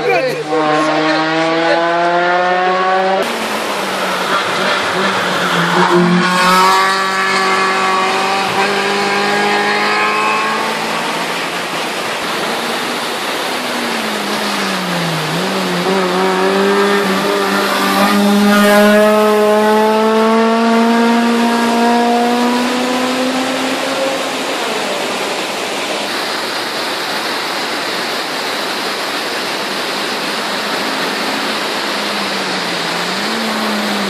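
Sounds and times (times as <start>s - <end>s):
race car engines accelerating: 0.0s - 26.4s, 29.3s - 34.0s.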